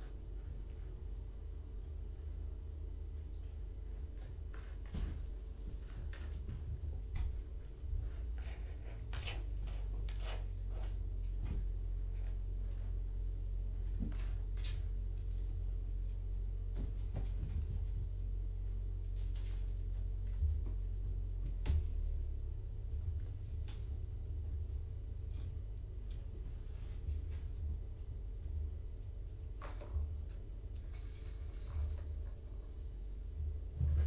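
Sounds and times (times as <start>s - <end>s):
low hum: 0.0s - 34.0s
kittens' paws thudding and scuffling: 3.2s - 34.0s.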